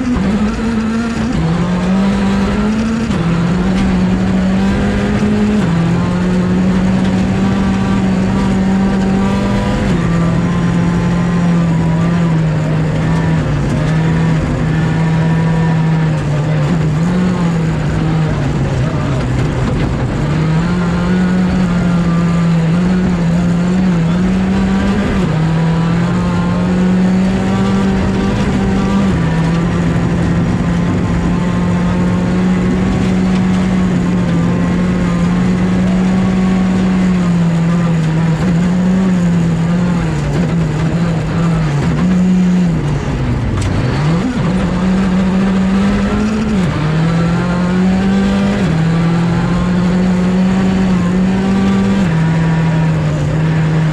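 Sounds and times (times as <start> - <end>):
rally car engine at high revs: 0.0 - 53.9.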